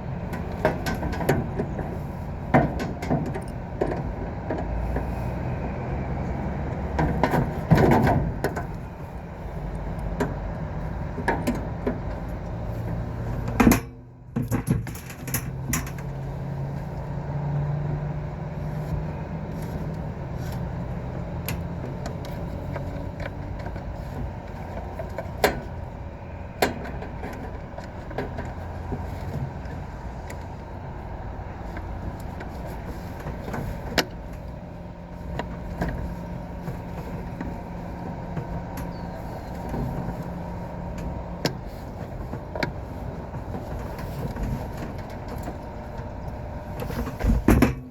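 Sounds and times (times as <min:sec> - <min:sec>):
air conditioning unit humming: 0:00.0 - 0:47.9.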